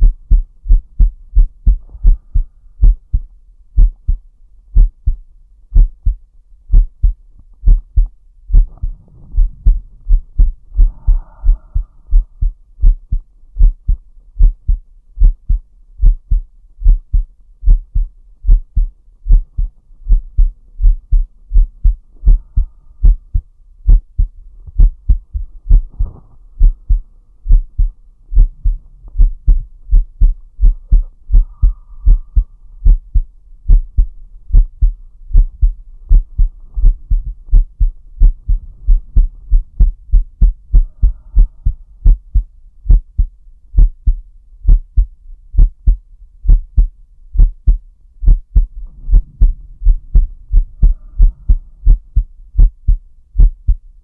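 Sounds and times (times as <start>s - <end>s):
heartbeat thumps: 0.0s - 54.0s.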